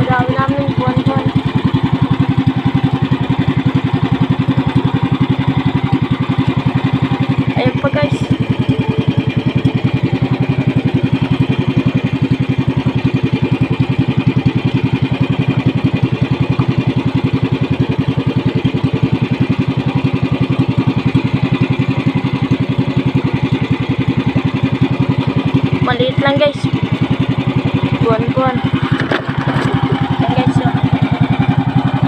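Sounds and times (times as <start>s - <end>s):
boat engine chugging: 0.0s - 32.0s.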